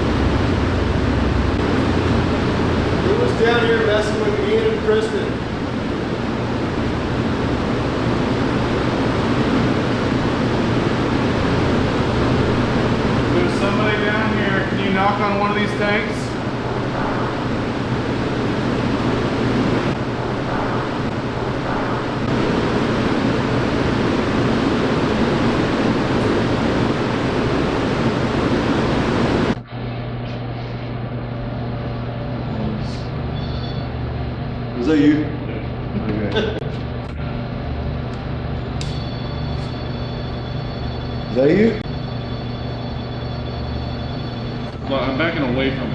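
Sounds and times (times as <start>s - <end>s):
refrigeration unit humming: 0.0s - 45.9s
steady rushing fan noise: 0.0s - 45.9s.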